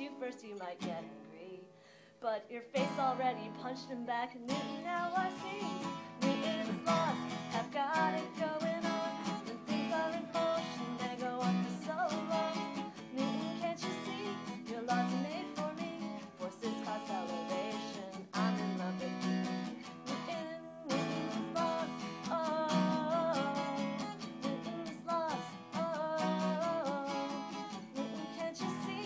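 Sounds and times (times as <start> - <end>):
woman singing: 0.0 - 29.0
acoustic guitar strumming: 2.8 - 29.0.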